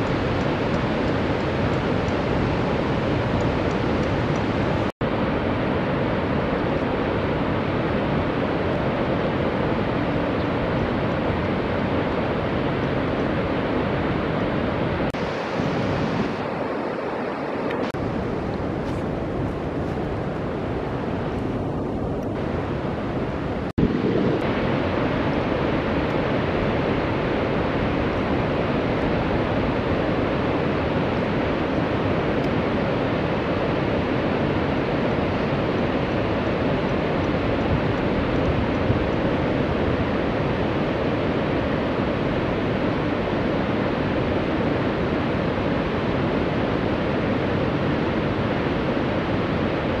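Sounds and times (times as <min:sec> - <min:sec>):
water rushing over a weir: 0:00.0 - 0:50.0.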